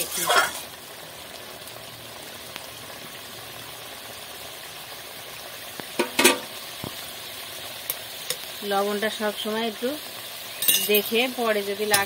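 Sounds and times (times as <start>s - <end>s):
curry simmering bubbling hiss: 0.0s - 12.0s.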